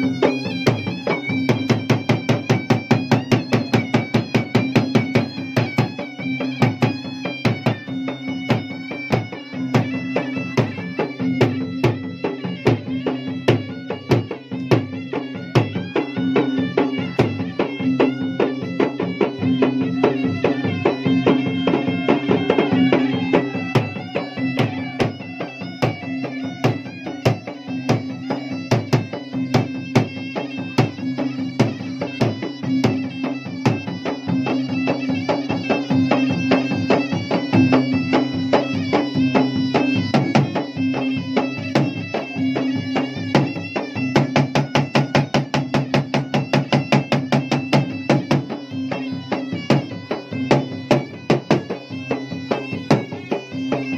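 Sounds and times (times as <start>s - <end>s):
barrel drums beaten fast: 0.0s - 53.9s
reedy wind instrument drone: 0.0s - 53.9s.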